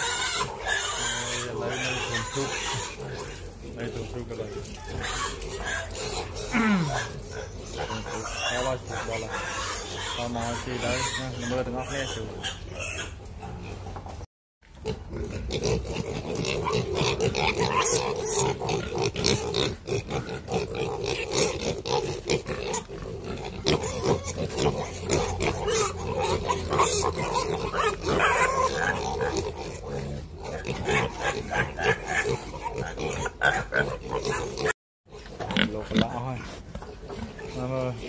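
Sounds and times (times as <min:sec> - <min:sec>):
piglets grunting: 0:00.0 - 0:38.0.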